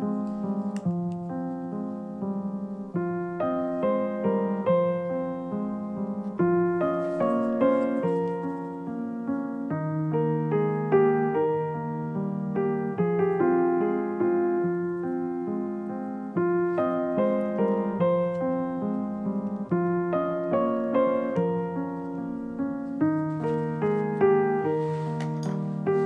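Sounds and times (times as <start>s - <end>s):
solo piano playing: 0.0s - 26.0s.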